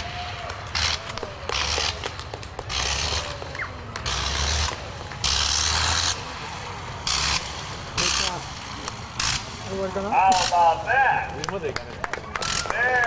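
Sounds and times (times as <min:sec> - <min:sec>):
aircraft engine cutting in and out: 0:00.0 - 0:11.7.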